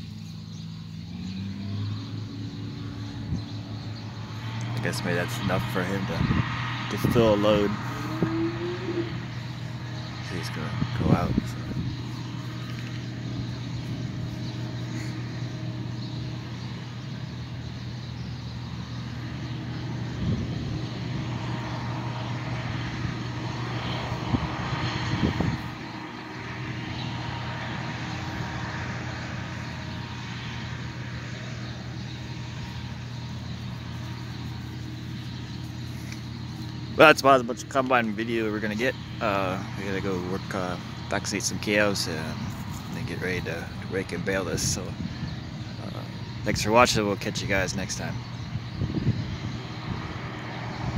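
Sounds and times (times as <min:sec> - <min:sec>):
farm machinery engine drone: 0:00.0 - 0:50.9.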